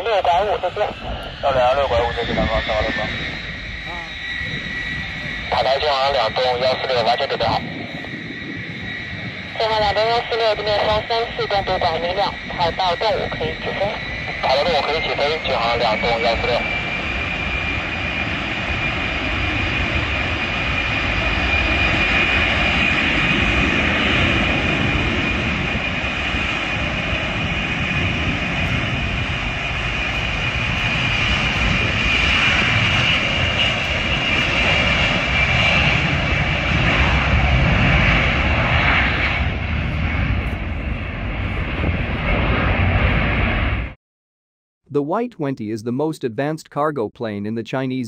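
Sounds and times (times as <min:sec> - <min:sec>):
jet engines roaring with high whine: 0:00.0 - 0:44.0.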